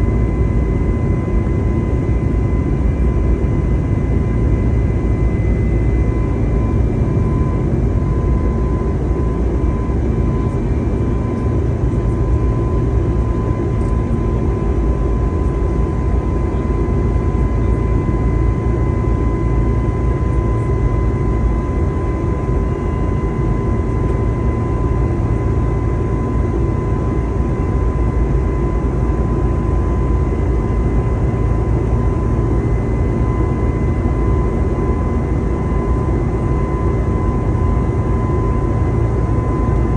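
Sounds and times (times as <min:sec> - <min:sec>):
thin steady whine: 0:00.0 - 0:39.9.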